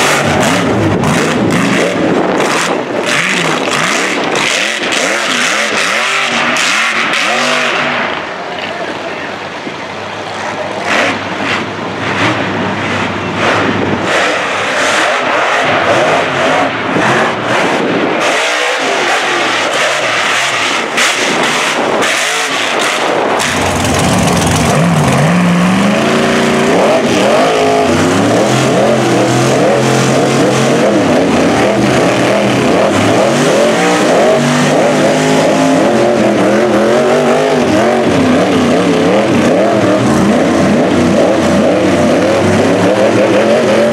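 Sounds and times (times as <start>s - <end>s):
tires spinning in dirt: 0.0s - 43.9s
truck engines revving: 0.0s - 43.9s.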